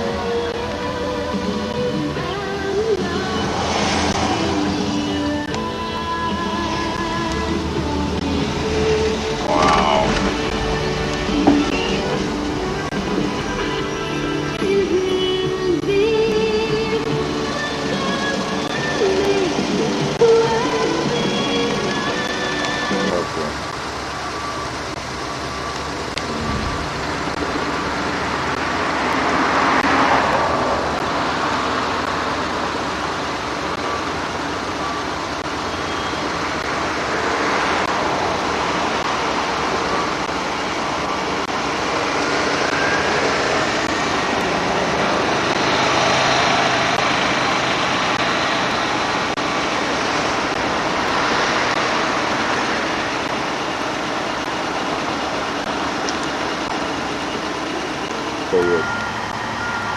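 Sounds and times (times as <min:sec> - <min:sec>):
background traffic: 0:00.0 - 0:59.9
vehicles passing: 0:00.0 - 0:59.9.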